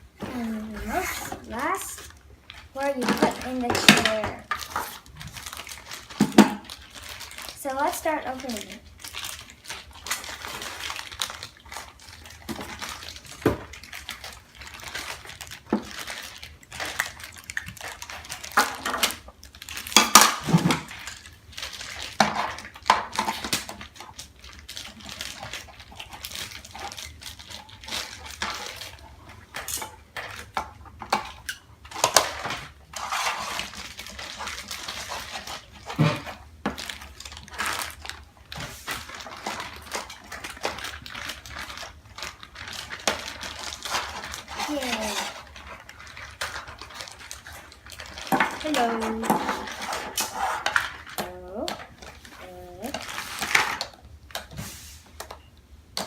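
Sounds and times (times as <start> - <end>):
cardboard and plastic packaging rustling: 0.0 - 56.0
plastic pieces clicking and clattering: 1.5 - 54.5.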